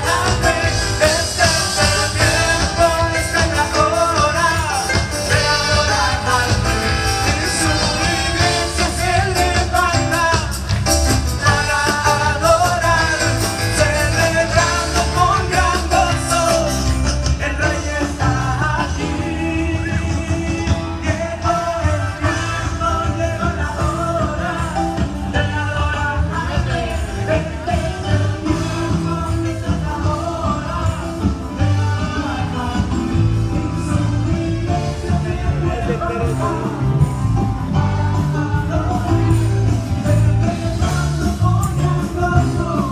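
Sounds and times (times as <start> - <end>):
upbeat live band music: 0.0 - 42.9.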